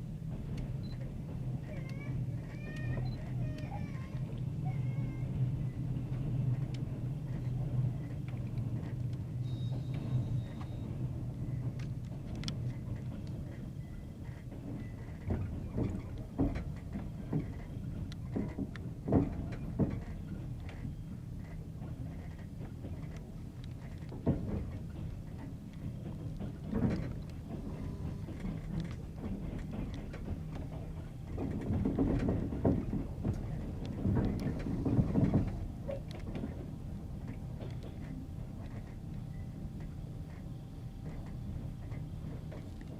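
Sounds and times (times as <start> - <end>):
low train running rumble: 0.0 - 42.9
train wheels clickety-clack: 0.0 - 42.9.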